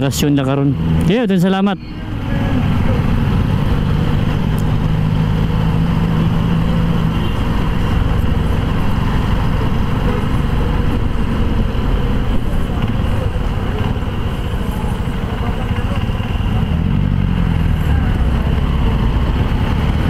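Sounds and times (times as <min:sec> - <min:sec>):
low engine hum: 0:00.0 - 0:20.0
road traffic noise: 0:00.0 - 0:20.0.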